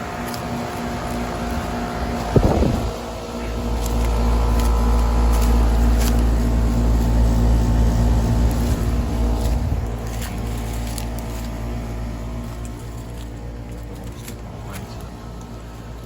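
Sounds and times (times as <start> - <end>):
heat pump compressor and fan hum: 0.0 - 16.0
low rumble: 0.8 - 16.0.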